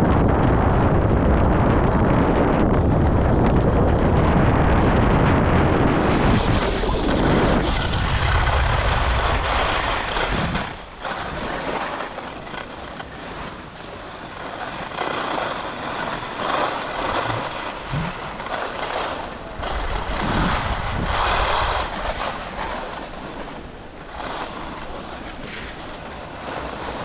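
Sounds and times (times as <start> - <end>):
wind buffeting microphone: 0.0 - 27.0
skis scraping over snow: 0.1 - 27.0.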